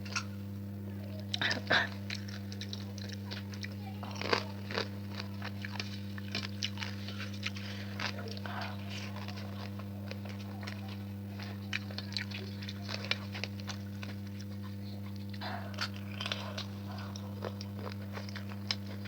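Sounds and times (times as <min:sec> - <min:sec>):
low electrical hum: 0:00.0 - 0:19.0
wet chewing and lip-smacking: 0:01.3 - 0:19.0.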